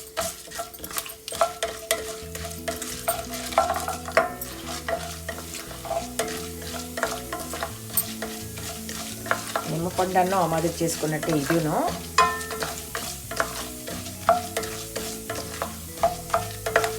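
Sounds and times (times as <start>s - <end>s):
frying in hot oil sizzle: 0.0s - 16.9s
spoon clinking and scraping pan: 0.0s - 16.9s.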